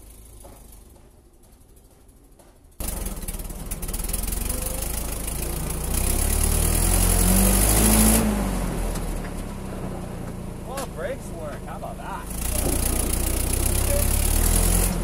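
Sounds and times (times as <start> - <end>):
forklift engine revving: 2.2 - 15.0.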